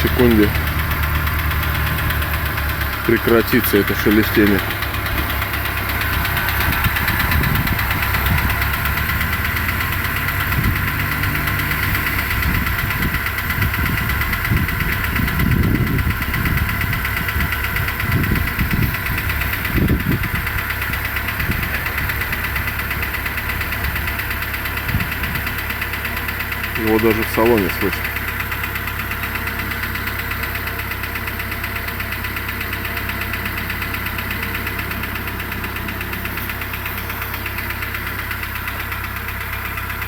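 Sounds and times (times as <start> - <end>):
car engine idling: 0.0 - 40.0
rustling chattering engine knock: 0.0 - 40.0.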